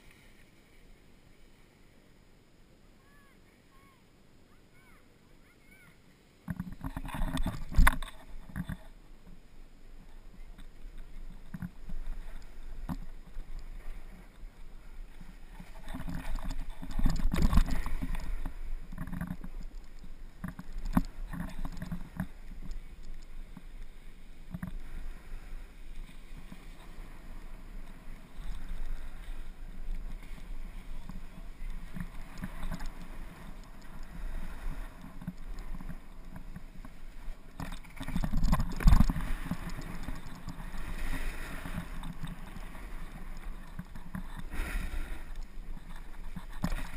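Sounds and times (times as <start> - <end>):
wind rumbling on microphone: 6.4 - 46.9
skis scraping over snow: 6.8 - 46.9.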